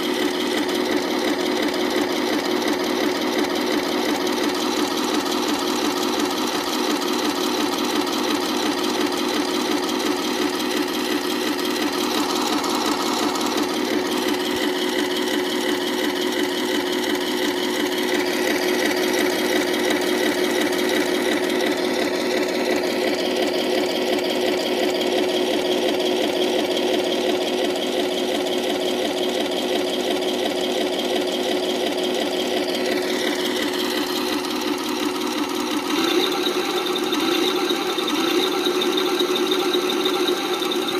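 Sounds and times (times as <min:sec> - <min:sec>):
simulated tank engine idling: 0:00.0 - 0:40.9.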